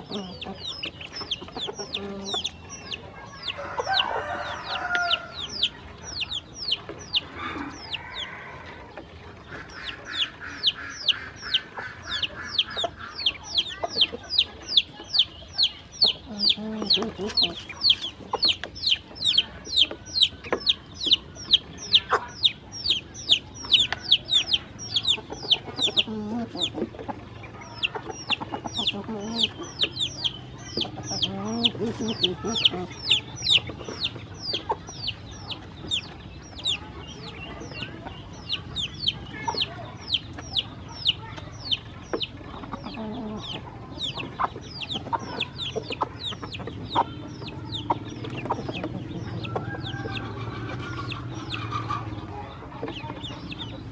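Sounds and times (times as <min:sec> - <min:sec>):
ducklings peeping: 0:00.0 - 0:53.9.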